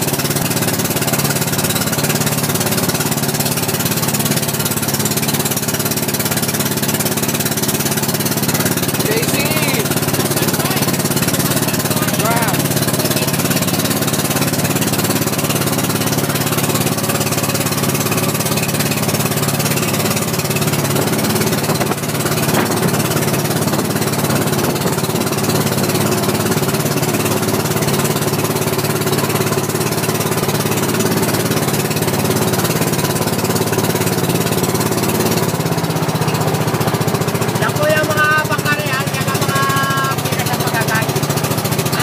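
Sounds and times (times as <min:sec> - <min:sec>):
boat engine running: 0:00.0 - 0:42.0
rushing water: 0:00.0 - 0:42.0
wind: 0:00.0 - 0:42.0.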